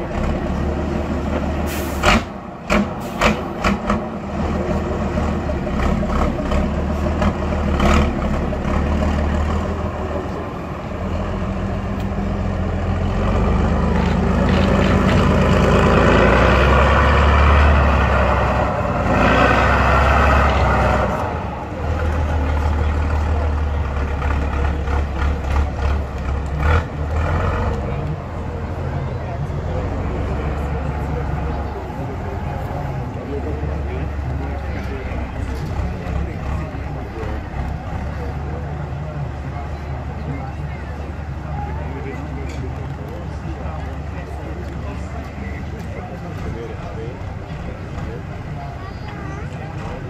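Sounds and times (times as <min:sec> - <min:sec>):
truck engine under load: 0:00.0 - 0:50.0.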